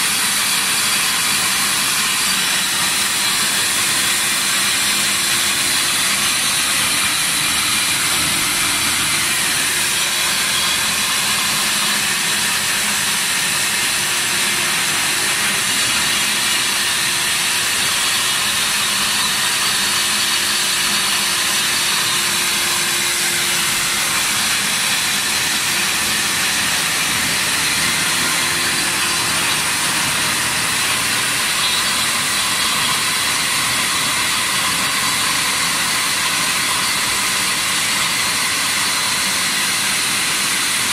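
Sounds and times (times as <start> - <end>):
concrete floor grinder running: 0.0 - 40.9.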